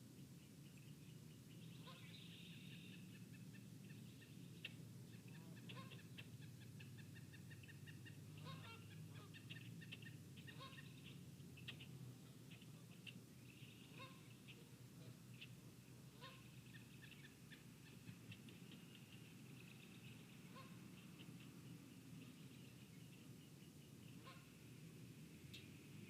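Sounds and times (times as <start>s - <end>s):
wild bird calls: 1.0s - 24.6s.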